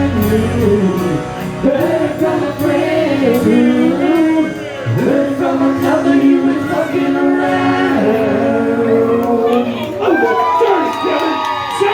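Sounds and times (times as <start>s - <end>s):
guitar and bass: 0.0s - 10.0s
person singing: 0.0s - 10.1s.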